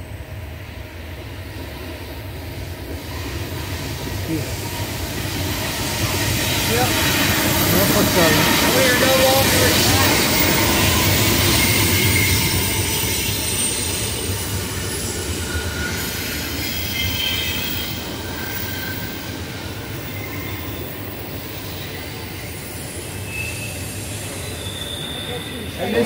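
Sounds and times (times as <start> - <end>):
freight train rumbling: 0.0 - 26.0
train wheels squealing: 1.4 - 26.0.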